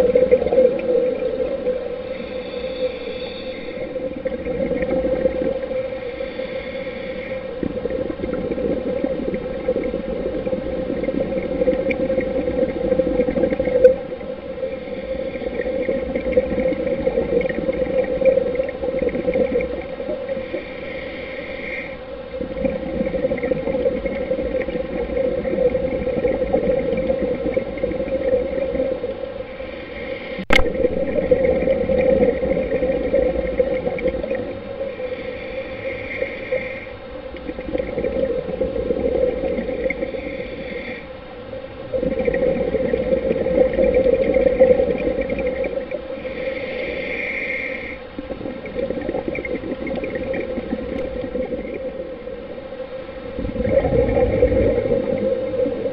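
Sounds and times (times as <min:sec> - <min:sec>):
muffled scuba exhaust bubbles: 0:00.0 - 0:55.9
underwater droning hum: 0:00.0 - 0:55.9.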